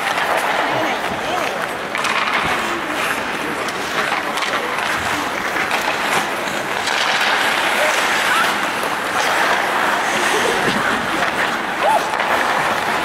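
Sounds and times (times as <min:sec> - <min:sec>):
hockey sticks and puck clacking: 0:00.0 - 0:13.0
skate blades scraping ice: 0:00.0 - 0:13.0.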